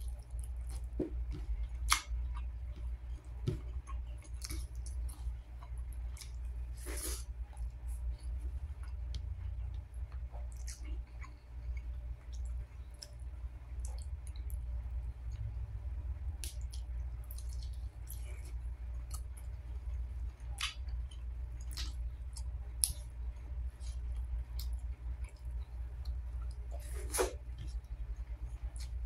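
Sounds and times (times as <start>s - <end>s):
chewing with wet mouth clicks: 0.0s - 2.9s, 3.5s - 6.6s, 7.5s - 14.6s, 16.4s - 26.7s, 28.5s - 29.0s
steady low hum: 0.0s - 29.0s.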